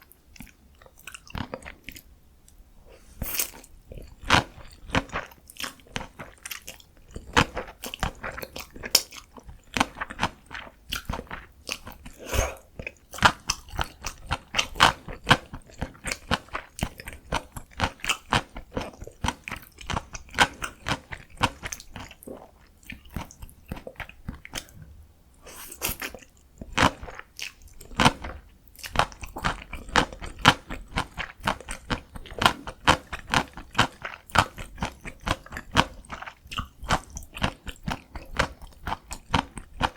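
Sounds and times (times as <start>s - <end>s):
close chewing of noodles: 0.0s - 2.1s, 3.2s - 39.9s.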